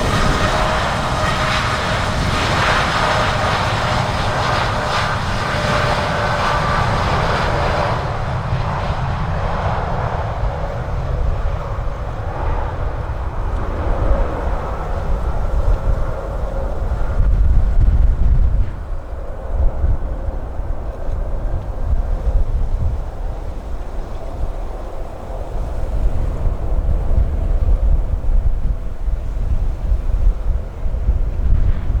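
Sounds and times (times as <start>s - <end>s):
jet engine roar with fan whine: 0.0s - 32.0s
wind rumble on microphone: 0.0s - 32.0s.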